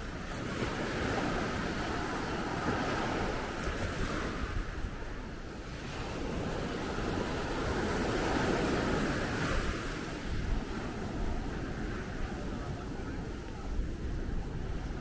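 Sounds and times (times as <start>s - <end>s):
rushing sea water: 0.0s - 15.0s
wind buffeting microphone: 0.0s - 15.0s.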